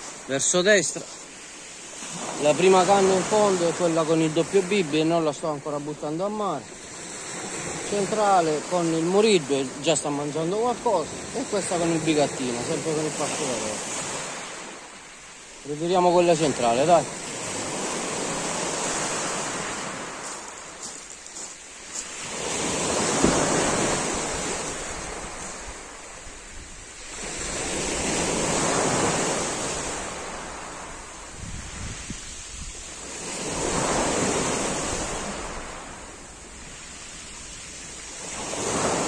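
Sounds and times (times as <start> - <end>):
small waves breaking on pebbles: 0.0 - 5.6, 6.4 - 39.0.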